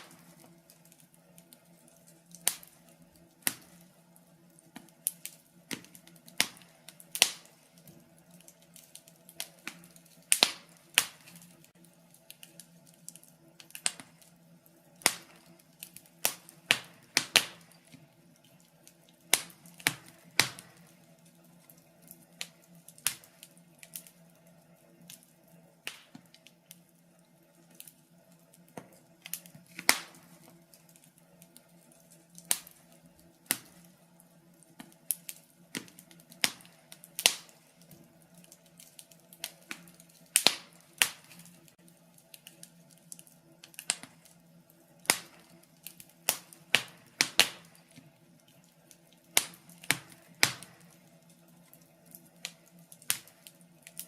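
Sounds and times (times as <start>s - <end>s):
faint steady hum: 0.0s - 54.0s
wood fire crackling: 0.0s - 54.0s.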